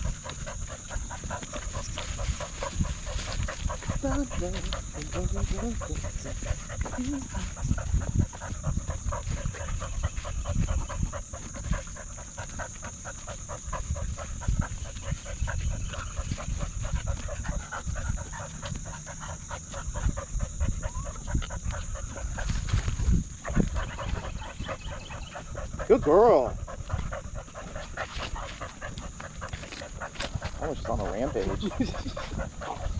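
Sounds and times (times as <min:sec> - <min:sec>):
dog panting: 0:00.0 - 0:32.9.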